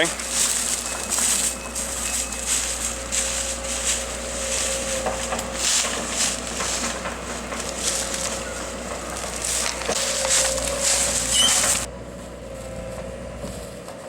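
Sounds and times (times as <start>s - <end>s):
brush crackling and snapping: 0.0s - 11.9s
machine engine running: 0.0s - 14.0s.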